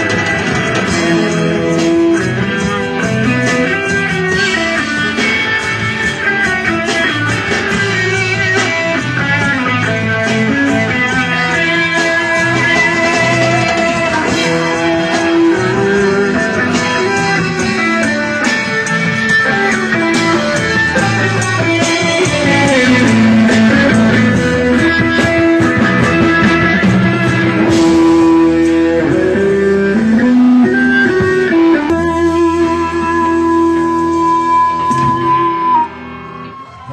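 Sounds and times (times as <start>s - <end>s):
electric guitar: 0.0s - 36.9s
live band playing amplified music: 0.0s - 36.9s.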